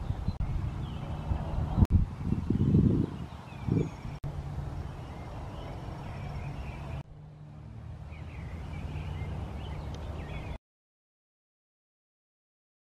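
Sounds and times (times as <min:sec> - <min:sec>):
songbirds chirping: 0:00.0 - 0:10.6.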